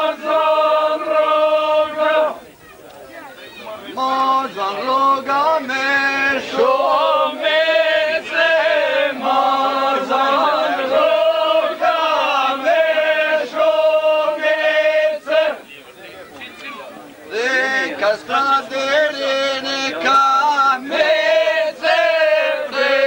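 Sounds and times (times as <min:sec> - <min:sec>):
men singing chant-like song: 0:00.0 - 0:02.4, 0:04.0 - 0:15.6, 0:17.3 - 0:23.0.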